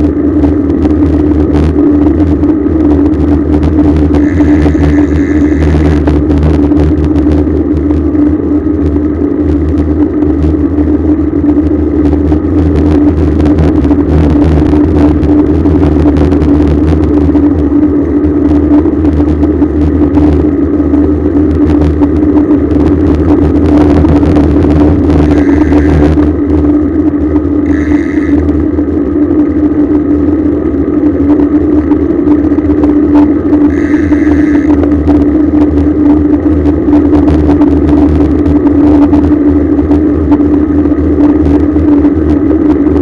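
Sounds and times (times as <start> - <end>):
constant low hum: 0.0 - 43.0
road rumble: 0.0 - 43.0
wind noise: 0.0 - 43.0.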